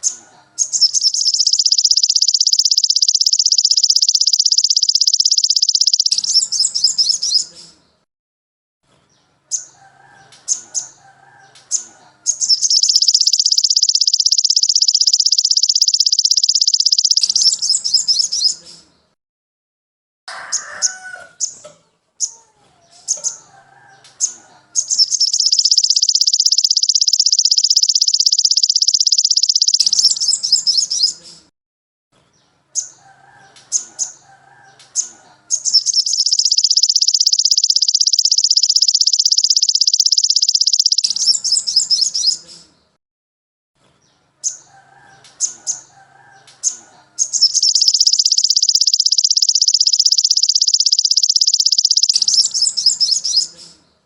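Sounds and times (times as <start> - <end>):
songbird trilling and chirping: 0.0 - 8.0, 9.5 - 19.1, 22.2 - 31.5, 32.8 - 43.0, 44.4 - 54.0.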